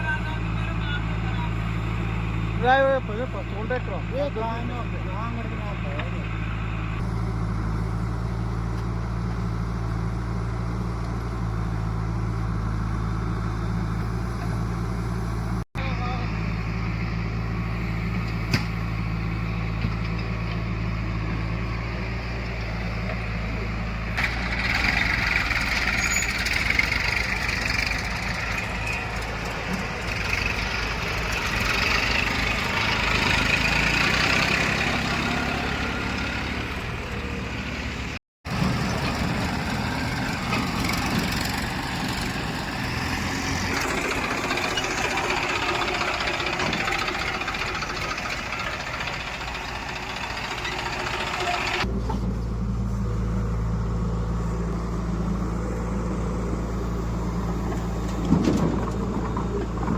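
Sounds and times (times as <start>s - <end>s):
diesel engines running: 0.0s - 59.9s
digging work noise: 0.0s - 59.9s.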